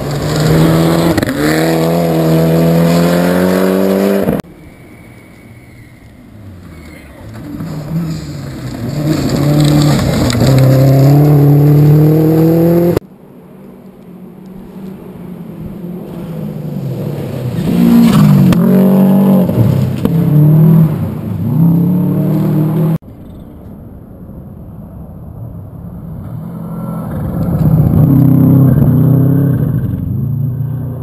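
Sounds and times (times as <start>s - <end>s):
rally cars passing at speed: 0.0s - 23.0s, 25.0s - 31.0s.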